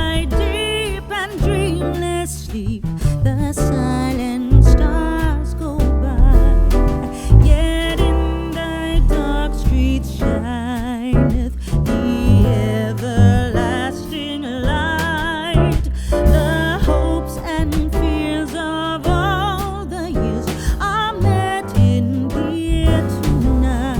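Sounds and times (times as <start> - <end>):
song with sung melody and bass: 0.0 - 23.9.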